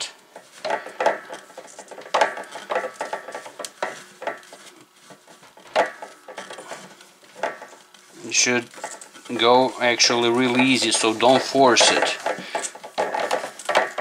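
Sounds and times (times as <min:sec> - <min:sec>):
pipe fitting clicks and scrapes: 0:00.0 - 0:14.0.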